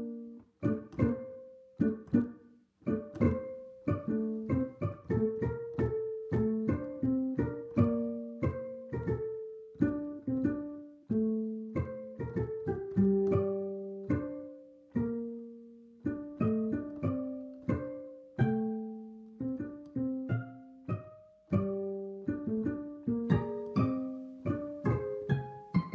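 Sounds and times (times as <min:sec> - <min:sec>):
plucked string instrument melody: 0:00.0 - 0:25.9.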